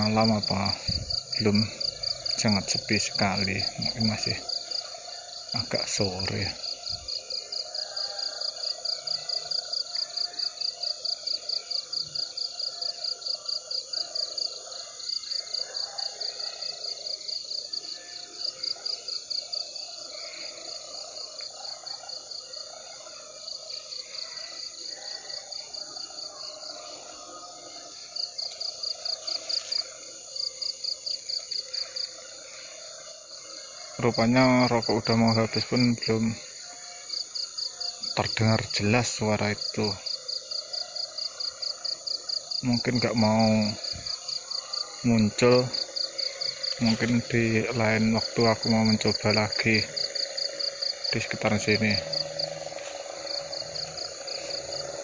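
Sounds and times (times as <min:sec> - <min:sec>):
cricket chirping: 0:00.0 - 0:55.0
wavering chorus of night insects: 0:00.0 - 0:55.0.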